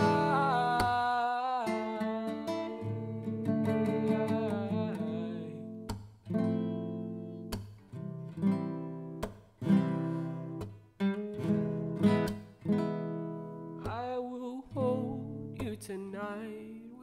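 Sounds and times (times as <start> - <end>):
guitar strumming chords: 0.0 - 16.9.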